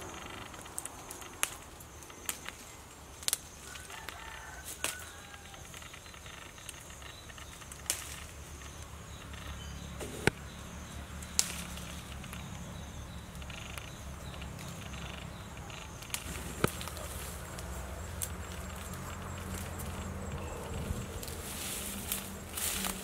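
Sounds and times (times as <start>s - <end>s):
leaves rustling: 0.0s - 23.0s
low outdoor rumble: 0.0s - 23.0s
stems snapping: 0.0s - 23.0s.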